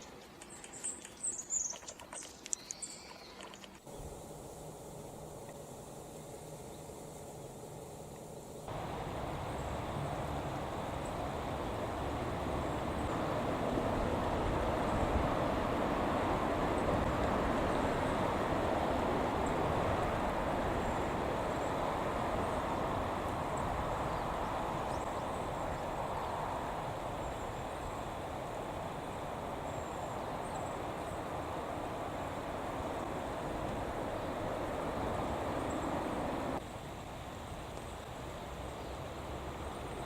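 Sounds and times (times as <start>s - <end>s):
steady rushing noise: 3.8s - 37.6s.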